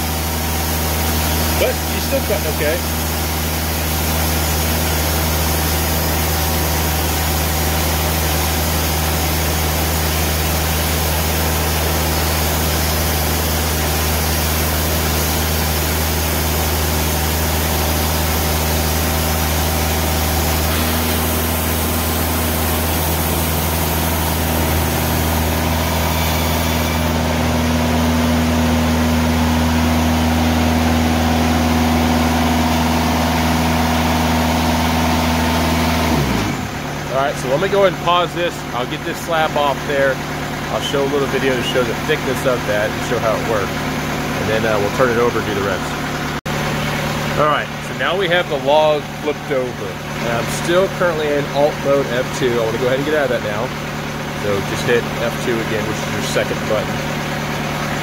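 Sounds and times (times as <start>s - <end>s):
band sawmill cutting log: 0.0s - 58.0s.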